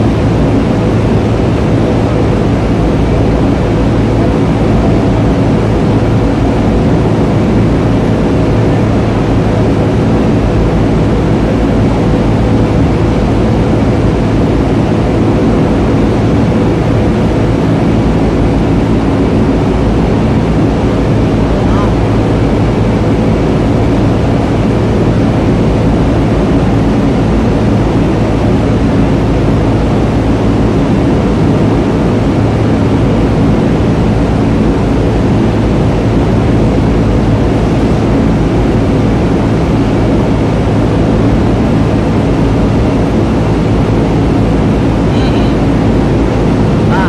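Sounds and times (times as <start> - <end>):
heavy machinery droning: 0.0 - 47.0.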